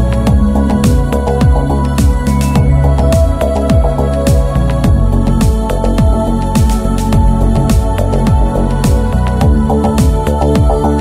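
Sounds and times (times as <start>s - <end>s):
kick-drum beat: 0.0s - 11.0s.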